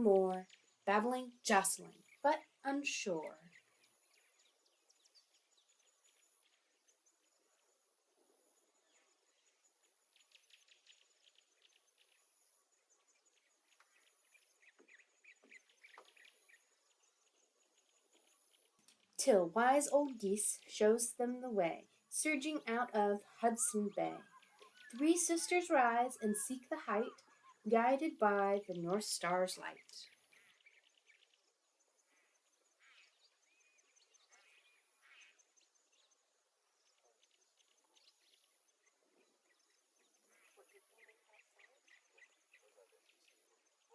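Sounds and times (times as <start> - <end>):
faint bird chirps: 0.0 - 43.9.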